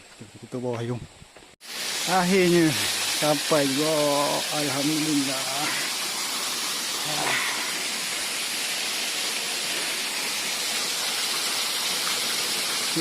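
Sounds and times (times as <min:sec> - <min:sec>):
small waterfall: 0:01.6 - 0:13.0.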